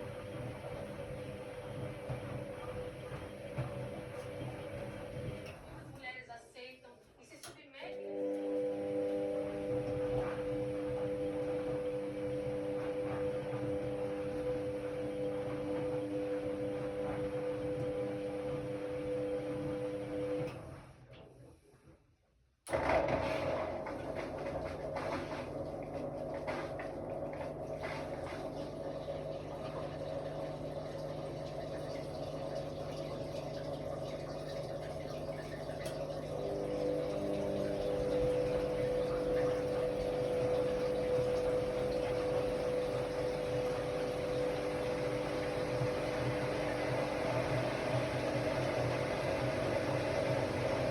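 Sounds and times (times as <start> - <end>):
water moving through machine: 0.0 - 6.4, 7.3 - 21.6, 22.7 - 50.9
washer-dryer electrical hum: 0.0 - 50.9.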